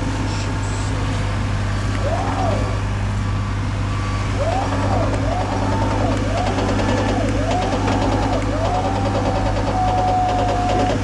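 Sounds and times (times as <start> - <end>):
reversing alarm warble: 0.0 - 11.0
truck engine running: 0.0 - 11.0.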